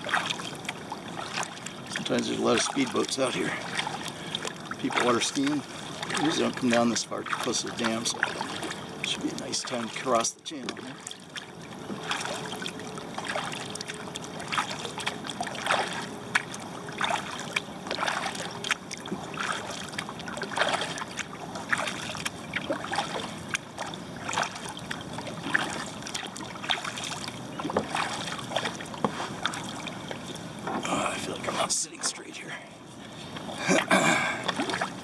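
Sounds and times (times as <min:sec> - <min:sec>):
paddle splashing in water: 0:00.0 - 0:32.3, 0:33.0 - 0:35.0
water trickling off paddle: 0:00.0 - 0:32.4, 0:33.0 - 0:35.0.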